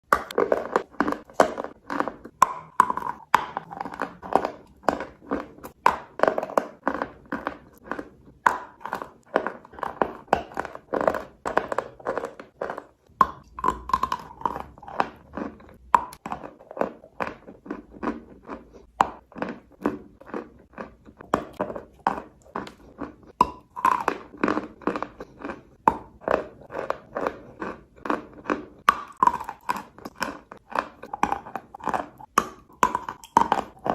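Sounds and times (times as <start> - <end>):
chalk being crunched and chewed: 0.1 - 33.9.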